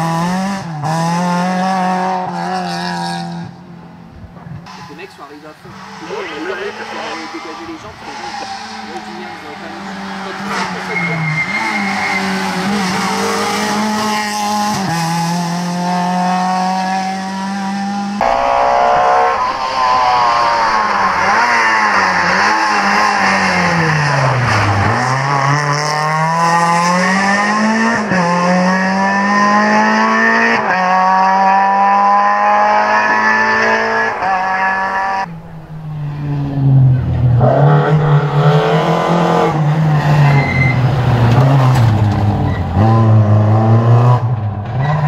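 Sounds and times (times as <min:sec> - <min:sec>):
rally car engine at full throttle: 0:00.0 - 0:45.0.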